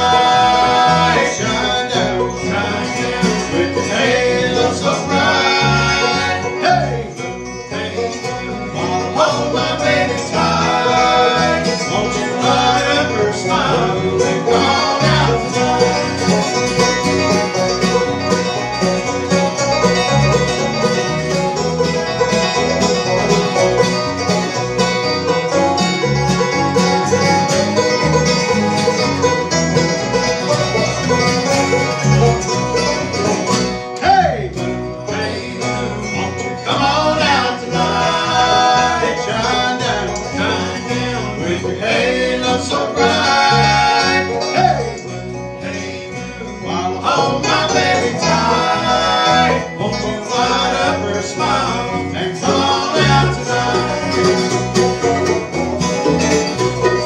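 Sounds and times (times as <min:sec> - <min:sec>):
bluegrass band playing: 0:00.0 - 0:57.0.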